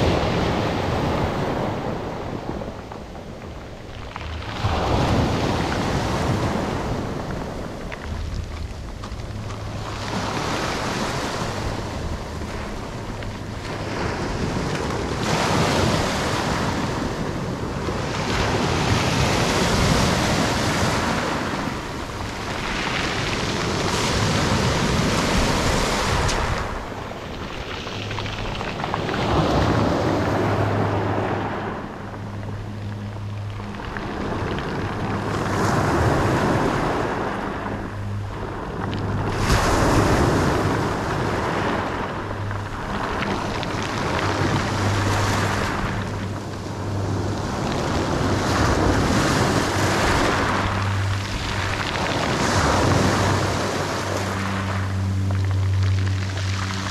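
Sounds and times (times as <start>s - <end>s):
waves breaking on pebble beach: 0.0s - 56.9s.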